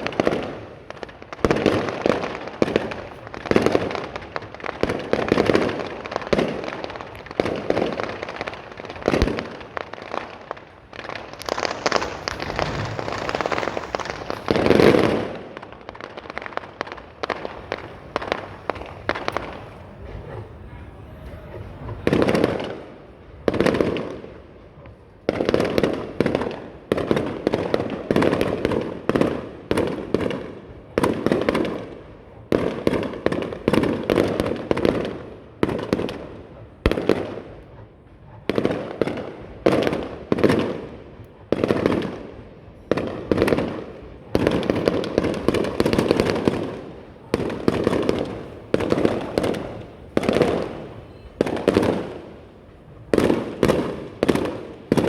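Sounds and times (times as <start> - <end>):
fireworks bursting with rumble: 0.0 - 55.0.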